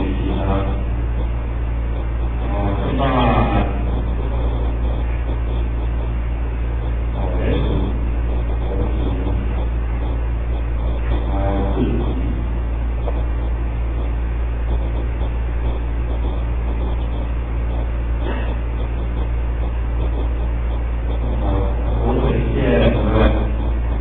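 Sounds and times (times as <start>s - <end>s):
deep hum: 0.0s - 24.0s.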